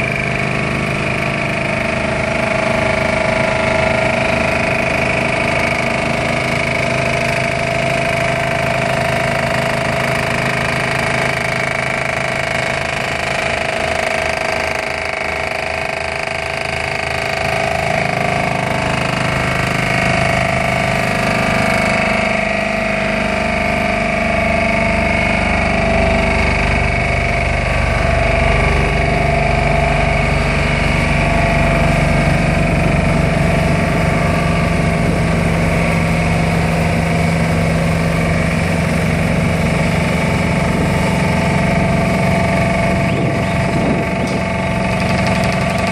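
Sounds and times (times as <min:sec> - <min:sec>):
steady mechanical whine: 0:00.0 - 0:45.9
vibratory hammer droning: 0:00.0 - 0:45.9.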